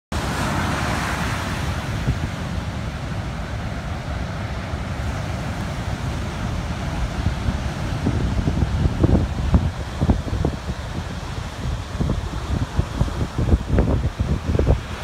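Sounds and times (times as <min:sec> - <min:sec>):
ocean surf breaking: 0:00.1 - 0:15.0
wind buffeting microphone: 0:00.2 - 0:15.0.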